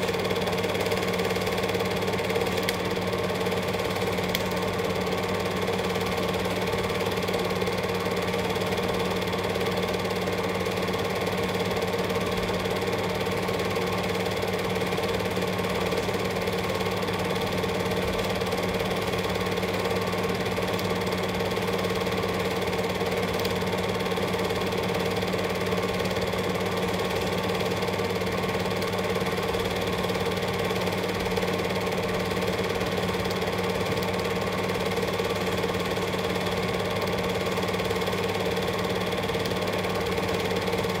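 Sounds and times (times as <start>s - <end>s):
film projector whirr and clatter: 0.0s - 41.0s.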